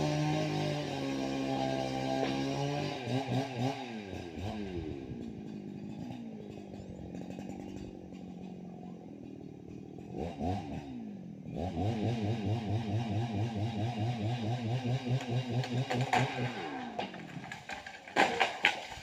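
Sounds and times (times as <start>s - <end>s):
chainsaw engine revving and idling: 0.0s - 19.0s.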